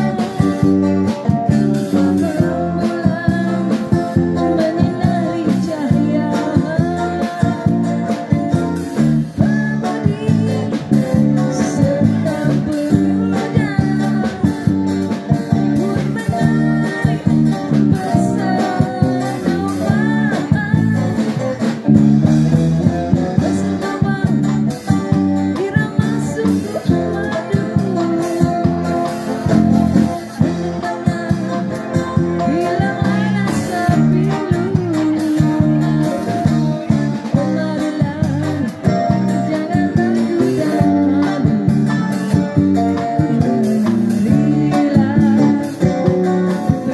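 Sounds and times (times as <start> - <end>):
woman singing: 0.0 - 21.6, 22.8 - 46.9
bass guitar: 0.0 - 46.9
guitar: 0.0 - 46.9.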